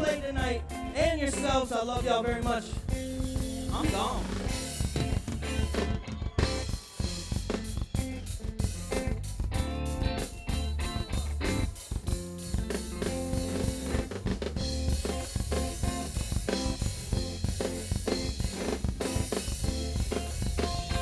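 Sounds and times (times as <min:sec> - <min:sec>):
drum kit kick and snare hits: 0:00.0 - 0:21.0
steady bass line: 0:00.0 - 0:21.0.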